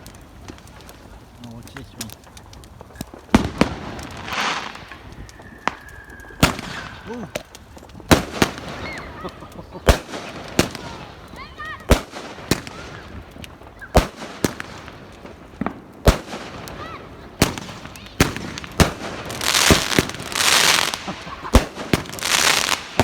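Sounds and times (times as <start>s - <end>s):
firework bangs: 0.0s - 23.0s
firework crackling hiss: 0.0s - 23.0s.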